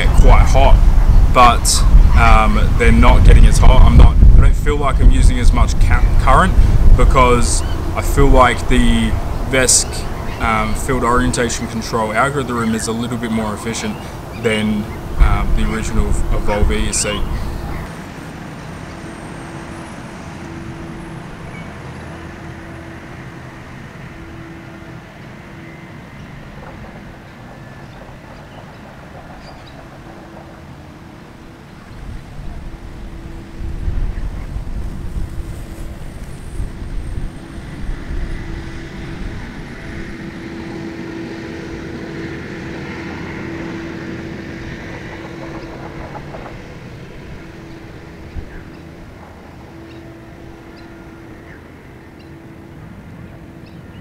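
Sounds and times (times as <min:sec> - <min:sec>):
faint hum: 0:00.0 - 0:54.0
wind rumble on microphone: 0:00.0 - 0:54.0.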